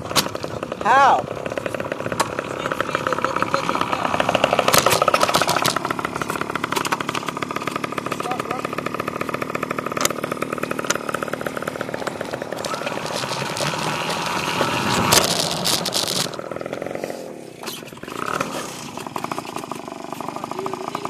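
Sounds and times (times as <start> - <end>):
dirt bike engine accelerating: 0.0 - 21.0.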